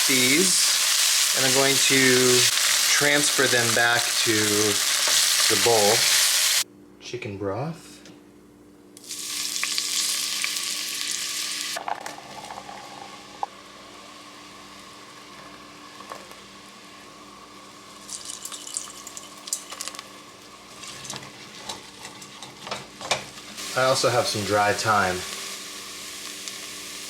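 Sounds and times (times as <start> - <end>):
broth sizzling in a hot pot: 0.0 - 6.6, 9.0 - 27.0.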